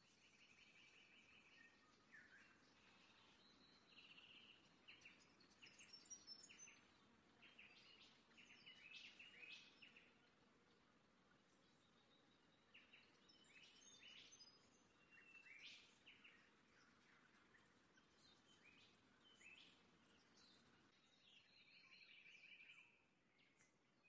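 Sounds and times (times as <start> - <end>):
faint birds chirping: 0.0 - 24.0
outdoor background hiss: 0.0 - 24.0.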